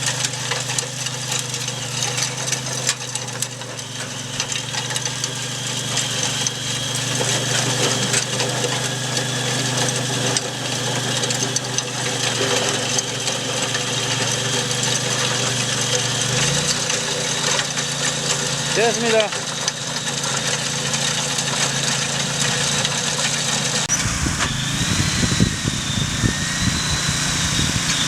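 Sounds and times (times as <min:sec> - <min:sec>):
garden tractor engine running: 0:00.0 - 0:28.0.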